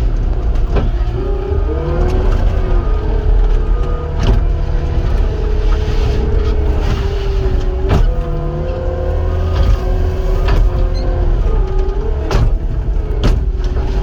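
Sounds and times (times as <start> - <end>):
diesel engine and hydraulics whining: 0.0 - 14.0.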